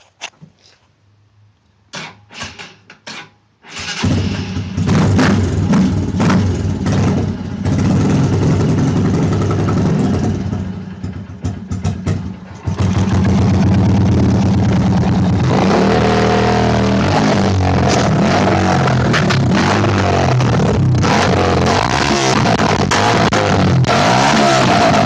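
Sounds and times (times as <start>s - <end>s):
dirt bike engine running loud: 4.0s - 25.0s.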